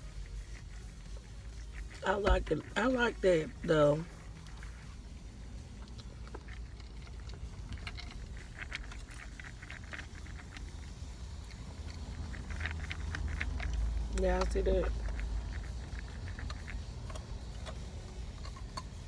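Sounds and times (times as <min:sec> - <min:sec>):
person chewing crunchy food: 0:00.0 - 0:02.8, 0:04.1 - 0:19.0
steady low hum: 0:00.0 - 0:19.0.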